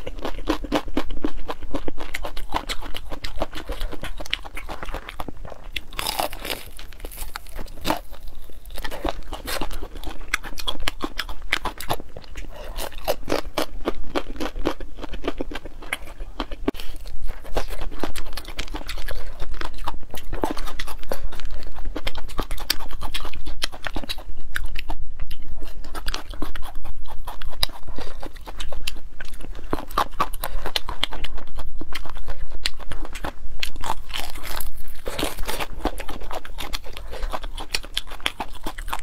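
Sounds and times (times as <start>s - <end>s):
crunchy chewing: 0.0s - 39.0s.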